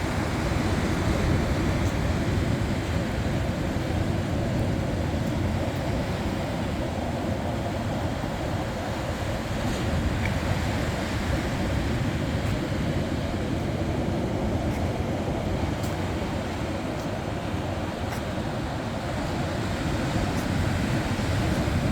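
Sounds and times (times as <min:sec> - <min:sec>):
sea waves on a beach: 0:00.0 - 0:21.9.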